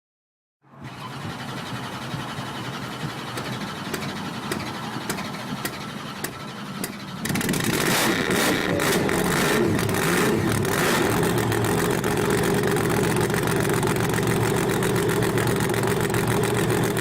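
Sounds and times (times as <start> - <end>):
truck engine starting and idling: 0.7 - 17.0.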